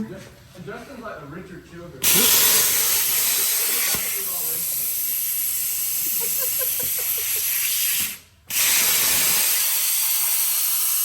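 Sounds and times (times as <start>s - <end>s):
steady hissing noise: 2.0s - 11.0s.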